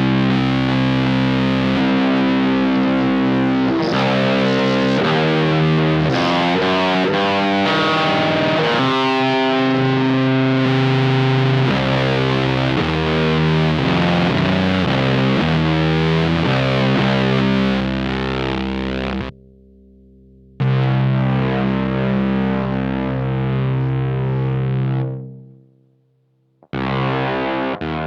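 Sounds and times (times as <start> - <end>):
distorted electric guitar riff: 0.0 - 19.4, 20.6 - 25.6, 26.6 - 28.0.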